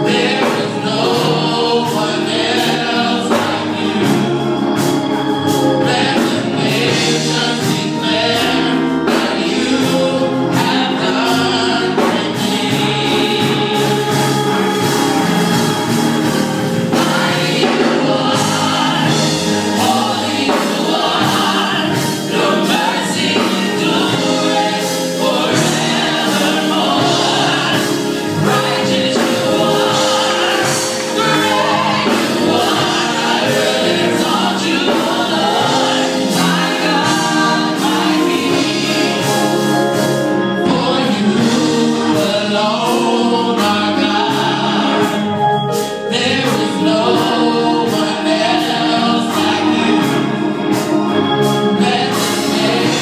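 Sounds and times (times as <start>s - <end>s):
bass guitar: 0.0s - 53.0s
drums: 0.0s - 53.0s
keyboard: 0.0s - 53.0s
vocal group singing gospel: 0.0s - 53.0s.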